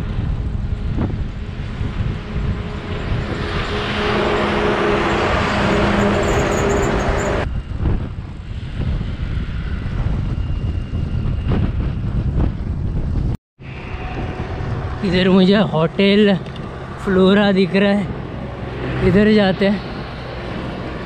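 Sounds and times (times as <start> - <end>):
heavy lorry passing: 0.0 - 10.5, 13.6 - 21.0
wind and road rumble: 0.0 - 21.0.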